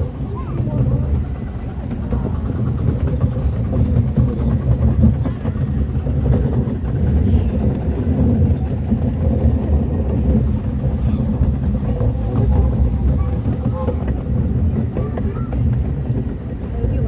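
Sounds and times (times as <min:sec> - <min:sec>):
miniature train rumbling on track: 0:00.0 - 0:17.0.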